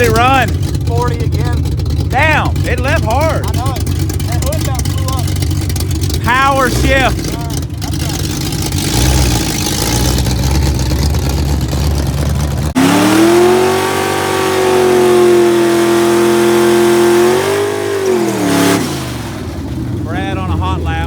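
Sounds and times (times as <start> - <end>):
drag car engine at high revs: 0.0 - 21.0
rumbling noisy engine: 0.0 - 21.0.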